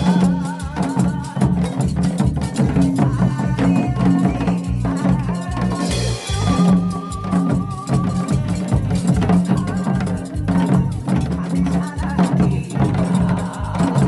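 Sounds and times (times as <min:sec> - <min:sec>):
drumming in quick rhythm: 0:00.0 - 0:14.0
music with bass and melody: 0:00.0 - 0:14.0.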